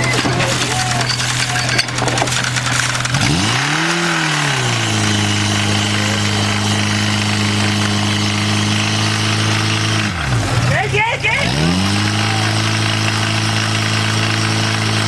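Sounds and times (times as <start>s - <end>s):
fire pump engine running: 0.0s - 15.0s.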